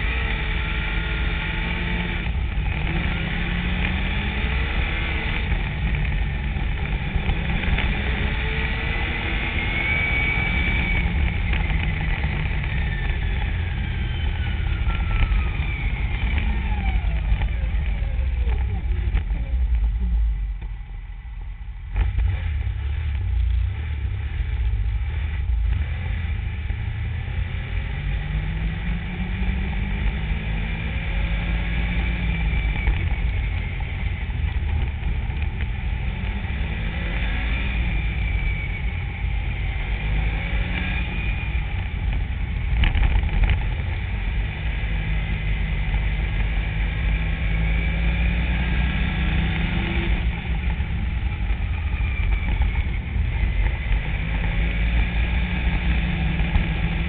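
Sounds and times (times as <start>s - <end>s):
snowmobile engine revving: 0.0s - 19.6s, 23.7s - 57.0s.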